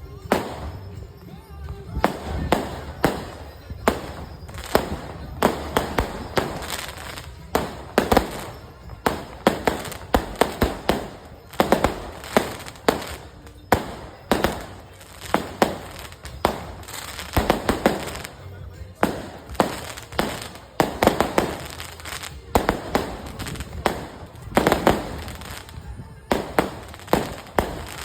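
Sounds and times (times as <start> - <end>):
fireworks banging: 0.0 - 28.0.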